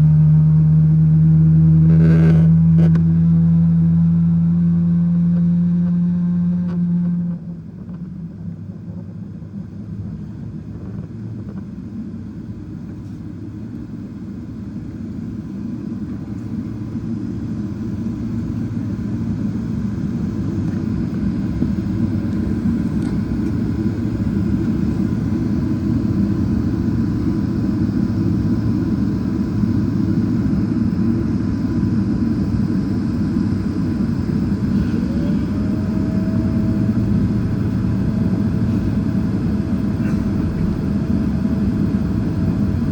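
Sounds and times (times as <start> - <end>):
jet engines rumbling: 7.2 - 42.9.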